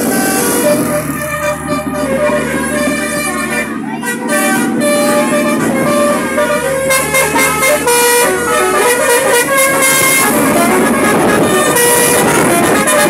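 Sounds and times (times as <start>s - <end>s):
multi-tone horn melody: 0.0s - 13.0s
road traffic noise: 0.0s - 13.0s.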